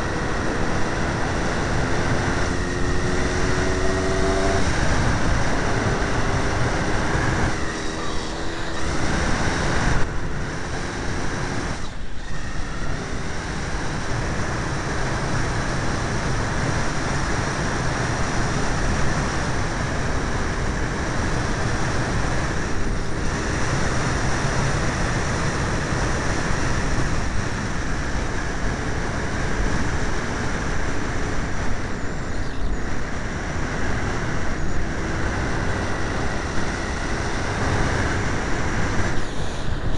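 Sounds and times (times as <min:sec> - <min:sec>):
two-stroke motorcycle engine hum: 0:00.0 - 0:39.9
wind noise on microphone: 0:00.0 - 0:39.9.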